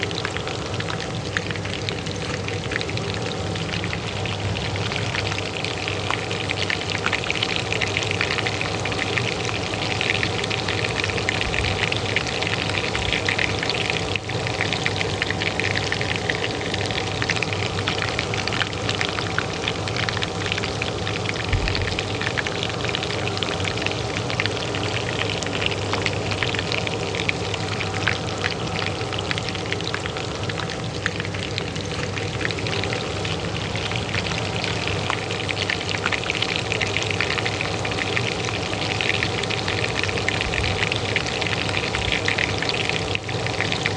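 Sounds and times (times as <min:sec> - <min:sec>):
oil frying in a pan: 0:00.0 - 0:43.9
range hood fan hum: 0:00.0 - 0:43.9.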